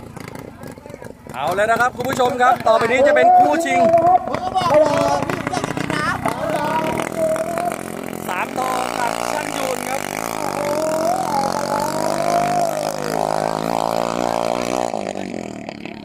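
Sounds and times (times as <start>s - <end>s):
boat engine at full throttle: 0.0s - 16.0s.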